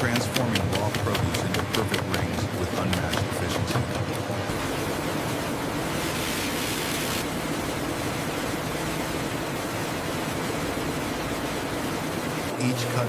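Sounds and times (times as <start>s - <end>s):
food-processing machinery hissing: 0.0s - 13.0s.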